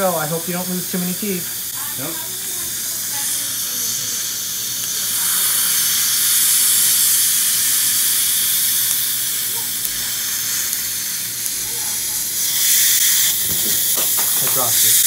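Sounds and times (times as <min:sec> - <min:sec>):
saliva ejector sucking hiss: 0:00.0 - 0:15.0.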